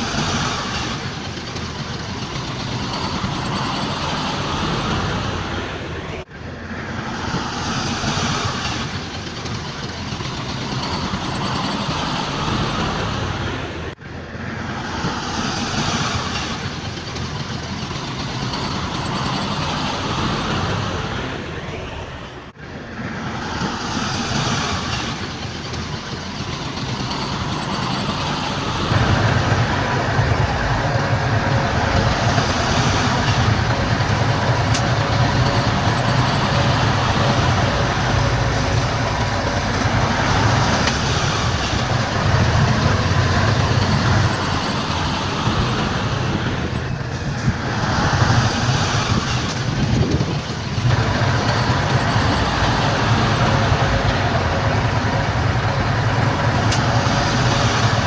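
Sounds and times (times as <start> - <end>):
heavy diesel machinery engine rumble: 0.0 - 58.0.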